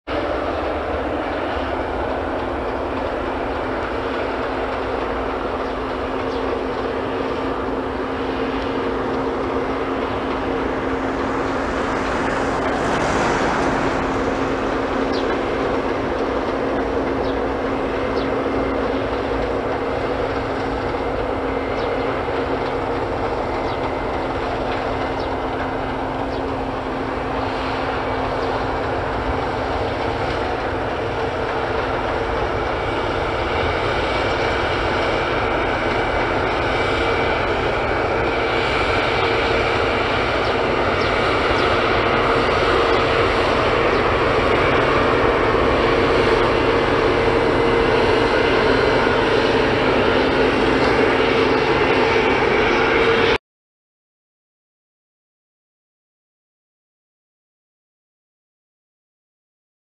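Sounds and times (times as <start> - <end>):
combine harvester running: 0.1 - 53.4.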